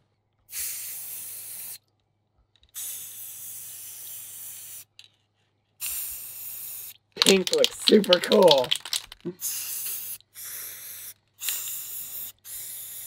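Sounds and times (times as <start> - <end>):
spray can spraying: 0.5 - 1.8, 2.8 - 4.9, 5.8 - 13.0.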